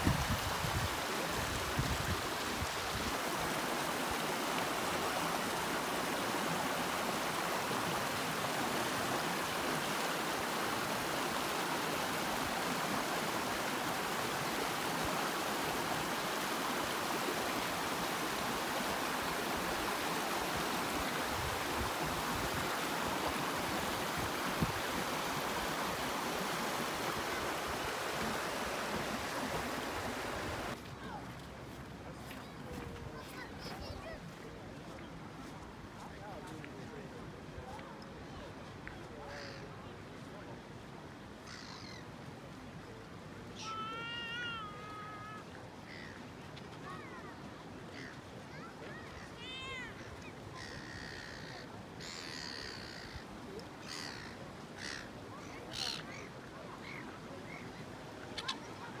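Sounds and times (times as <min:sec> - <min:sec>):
creek splashing over stones: 0:00.0 - 0:36.1, 0:42.2 - 0:59.0.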